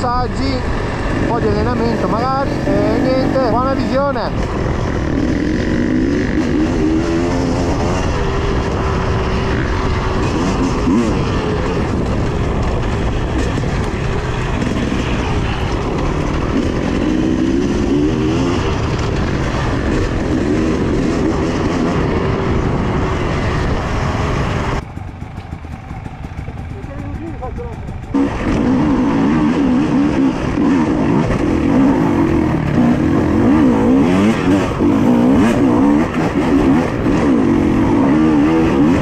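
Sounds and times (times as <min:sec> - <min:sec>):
motorcycle engine revving: 0:00.0 - 0:39.0
wind and ride noise: 0:00.0 - 0:39.0.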